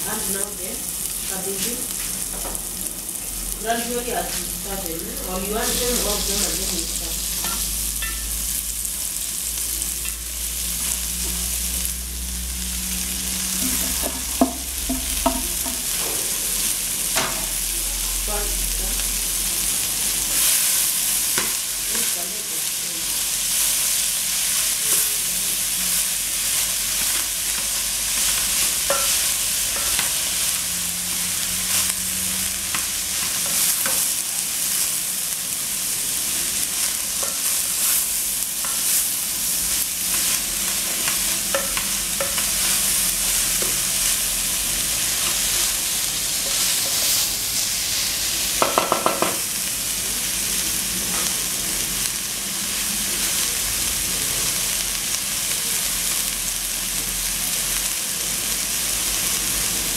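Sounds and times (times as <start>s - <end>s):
cabbage sizzling in a pot: 0.0s - 59.9s.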